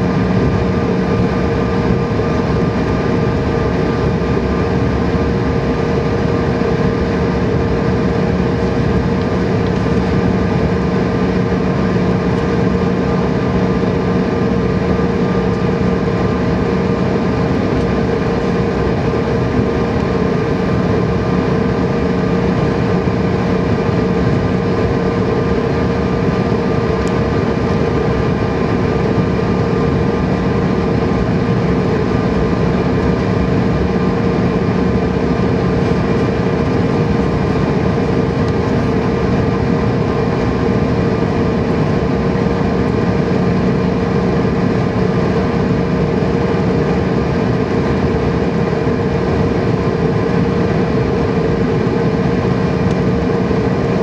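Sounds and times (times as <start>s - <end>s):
jet engines humming in cabin: 0.0s - 54.0s.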